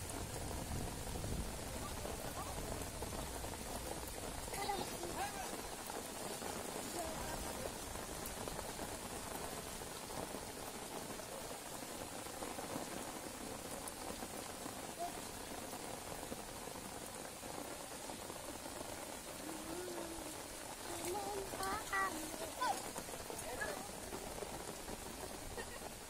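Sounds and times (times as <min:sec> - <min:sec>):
rain falling on standing water: 0:00.0 - 0:26.0.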